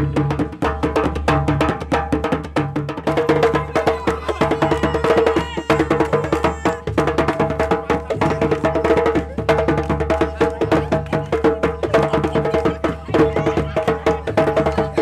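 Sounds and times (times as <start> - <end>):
fast hand drumming: 0.0 - 15.0.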